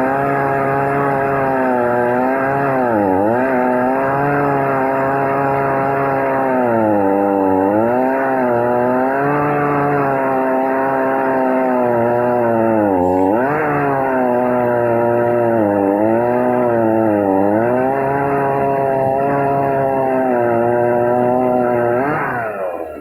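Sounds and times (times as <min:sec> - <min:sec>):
chainsaw cutting: 0:00.0 - 0:23.0.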